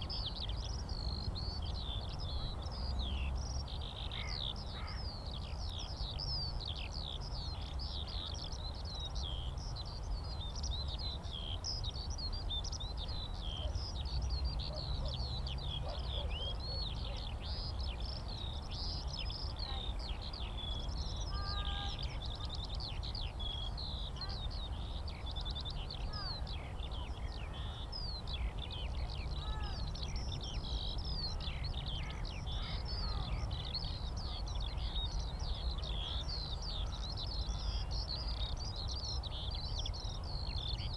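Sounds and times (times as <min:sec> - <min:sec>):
skylark song: 0:00.0 - 0:40.9.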